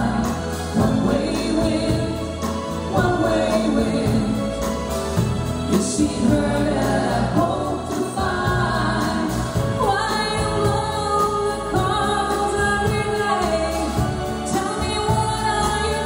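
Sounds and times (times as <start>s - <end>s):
live pop band playing: 0.0s - 16.0s
voices singing together: 0.0s - 16.0s.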